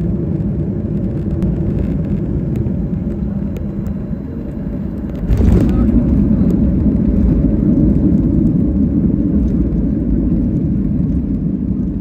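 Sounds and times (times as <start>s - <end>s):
airliner engines and wheels rumbling: 0.0s - 12.0s.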